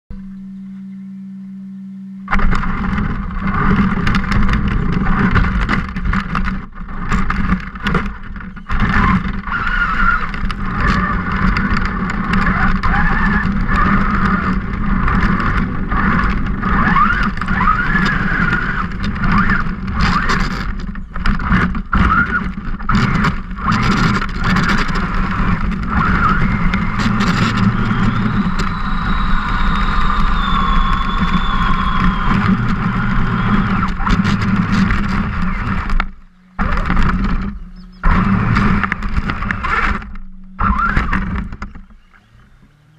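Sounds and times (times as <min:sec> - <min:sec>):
rattling and jolts: 0:02.3 - 0:42.1
toy truck motor whining: 0:07.2 - 0:42.9.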